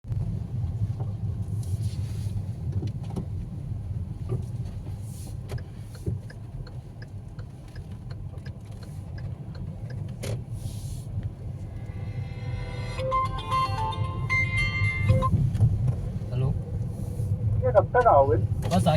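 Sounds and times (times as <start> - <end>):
motor vehicle rumbling on road: 0.0 - 18.9.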